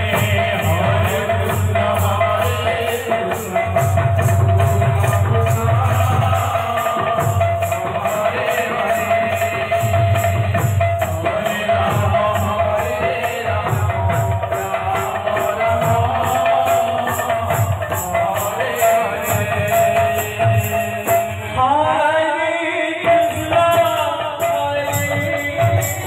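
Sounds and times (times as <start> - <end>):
drum beats: 0.0 - 21.8, 23.0 - 26.0.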